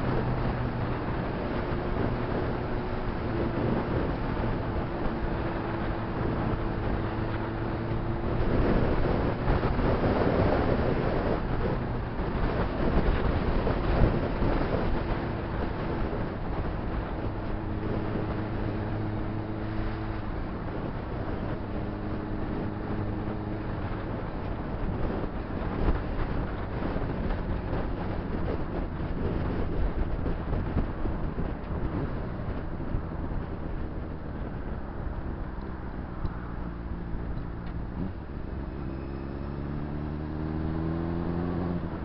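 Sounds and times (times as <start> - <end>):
wind noise on microphone: 0.0 - 42.0.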